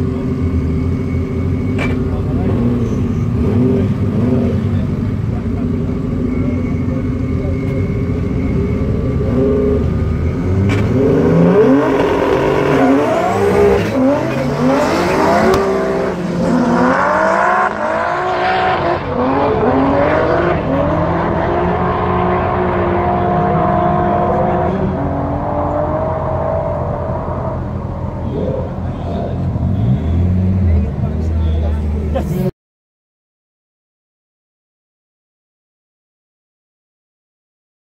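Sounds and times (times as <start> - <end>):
drag cars accelerating: 0.0 - 32.5.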